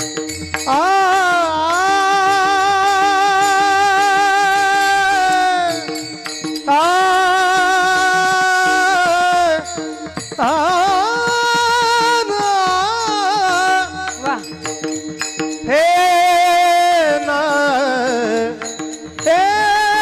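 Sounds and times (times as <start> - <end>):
hand-drum strokes: 0.0 - 20.0
person singing devotional line: 0.0 - 20.0.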